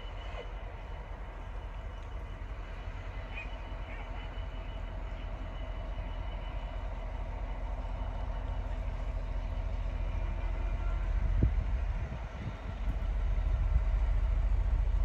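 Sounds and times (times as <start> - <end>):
distant train rumble: 0.0 - 15.0.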